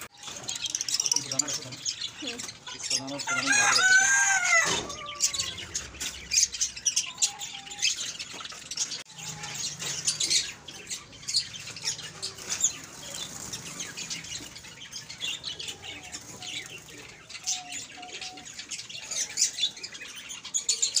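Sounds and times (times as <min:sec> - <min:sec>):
sparrows chirping: 0:00.0 - 0:21.0.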